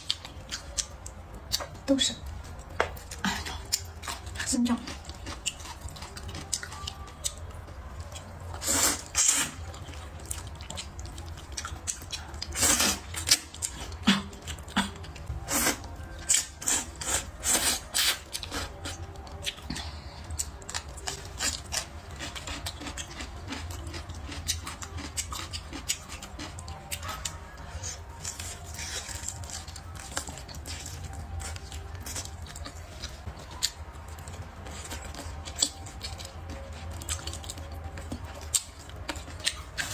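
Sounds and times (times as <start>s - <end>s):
woman chewing food: 0.0s - 39.9s.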